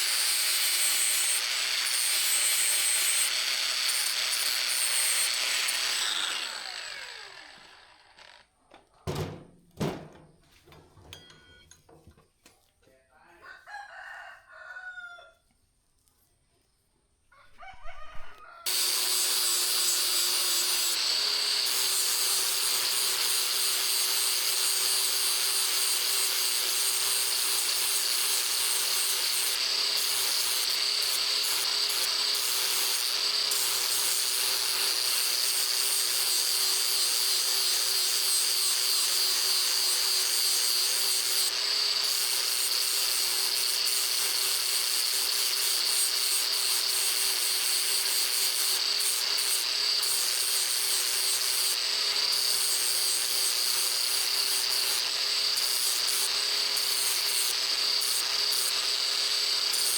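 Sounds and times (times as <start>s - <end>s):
electric power tool running: 0.0s - 8.5s, 18.6s - 59.9s.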